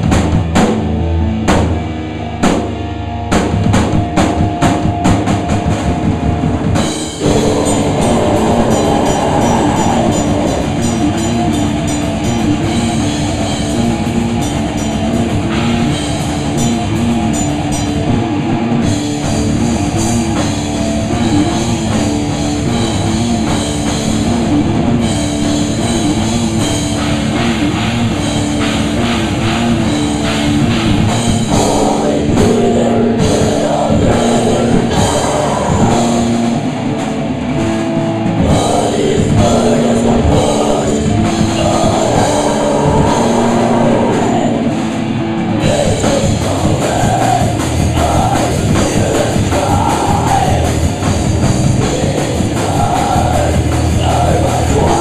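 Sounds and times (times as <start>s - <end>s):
drum kit with cymbals: 0.0s - 55.0s
electric guitars: 0.0s - 55.0s.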